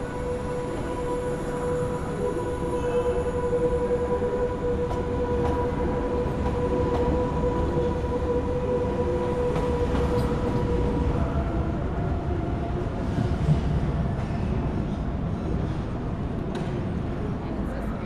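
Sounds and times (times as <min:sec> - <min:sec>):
electric train whine: 0:00.0 - 0:16.7
train wheels rumbling: 0:00.0 - 0:17.6.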